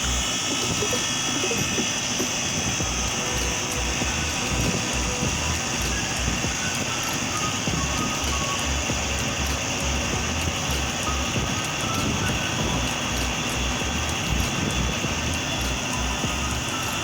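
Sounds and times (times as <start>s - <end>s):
air conditioner unit droning: 0.0s - 17.0s.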